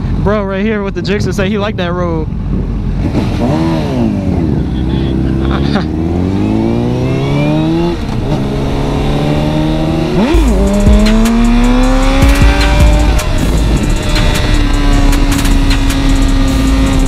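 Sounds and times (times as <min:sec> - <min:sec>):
motorcycle engine accelerating: 0:02.2 - 0:17.0.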